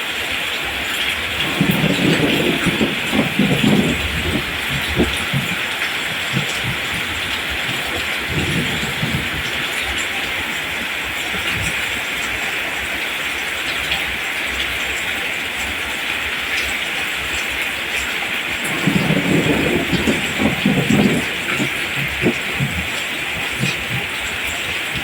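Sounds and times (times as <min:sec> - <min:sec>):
heavy rain hissing: 0:00.0 - 0:25.0
rolling thunder rumble: 0:00.6 - 0:14.2, 0:16.5 - 0:25.0.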